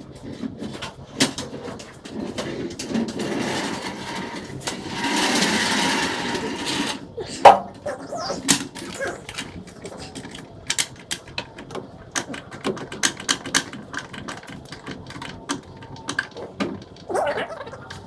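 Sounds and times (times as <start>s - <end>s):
hand tools clicking and knocking: 0.3s - 18.0s.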